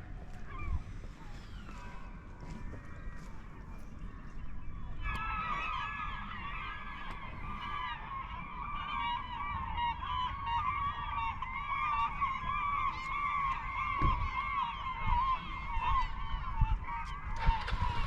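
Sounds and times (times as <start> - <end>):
flock of birds honking: 0.0 - 18.0.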